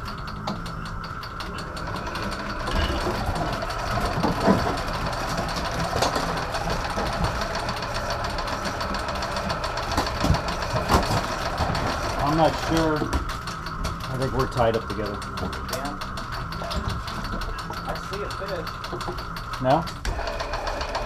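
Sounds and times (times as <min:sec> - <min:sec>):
boat engine idling: 0:00.0 - 0:21.0
electric reel motor humming: 0:00.0 - 0:21.0.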